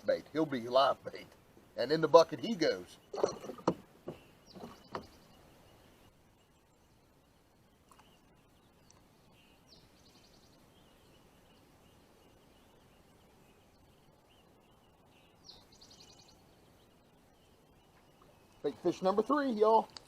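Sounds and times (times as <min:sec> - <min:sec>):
songbird singing a trill: 0:00.0 - 0:20.0.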